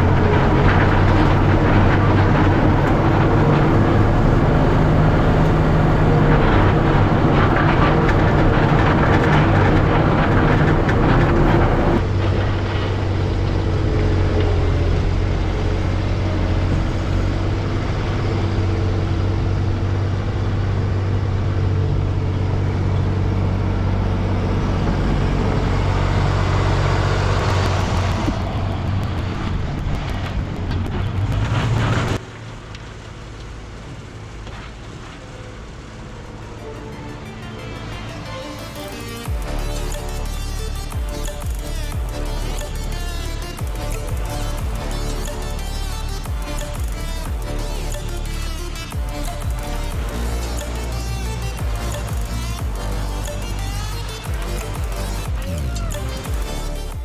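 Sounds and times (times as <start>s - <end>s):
diesel engine running: 0.0s - 32.7s, 35.4s - 57.0s.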